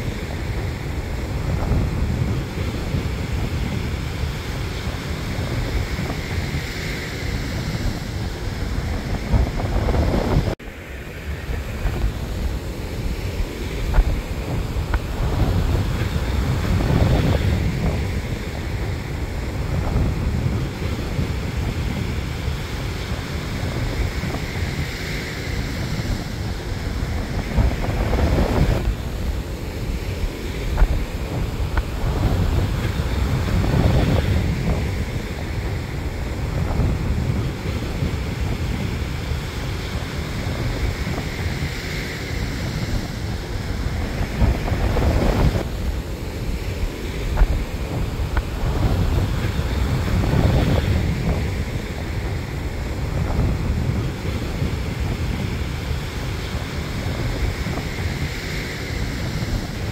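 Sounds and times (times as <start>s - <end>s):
surf breaking on beach: 0.0s - 59.9s
wind rumbling on microphone: 0.0s - 59.9s.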